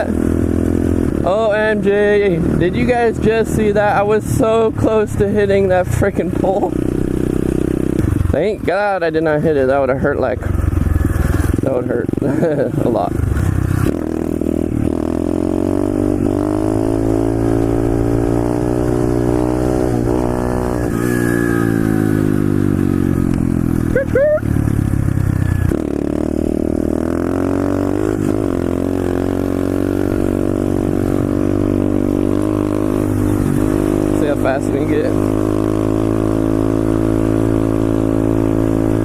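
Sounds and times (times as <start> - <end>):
motorbike engine revving: 0.0 - 39.0.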